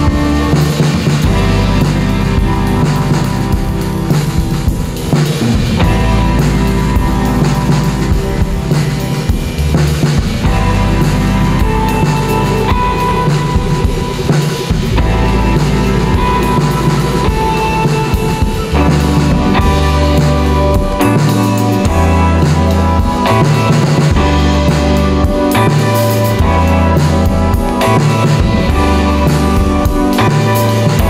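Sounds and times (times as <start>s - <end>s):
bass line: 0.0s - 31.0s
drum kit beat: 0.0s - 31.0s
indie rock song: 0.0s - 31.0s.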